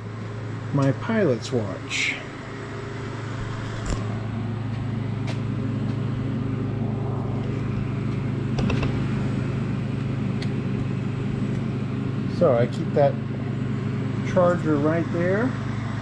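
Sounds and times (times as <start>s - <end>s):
machine shop equipment humming: 0.0s - 16.0s.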